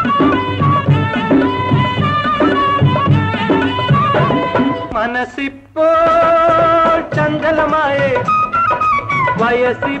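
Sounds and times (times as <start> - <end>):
instrumental film song melody: 0.0 - 5.1, 6.0 - 10.0.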